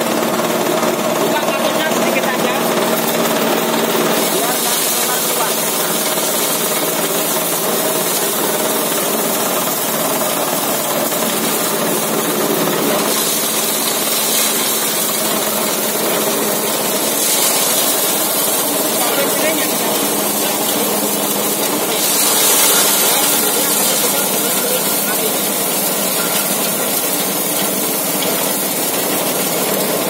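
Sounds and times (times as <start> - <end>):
small petrol engine running: 0.0 - 30.0.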